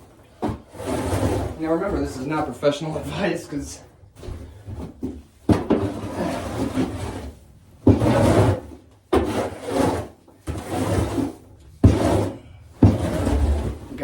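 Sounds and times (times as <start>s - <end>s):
tool scraping coop floor: 0.3s - 3.6s, 4.2s - 14.0s.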